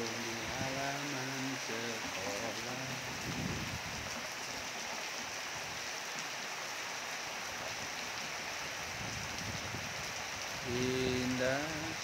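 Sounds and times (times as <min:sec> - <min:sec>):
rain on tiled roofs: 0:00.0 - 0:12.0.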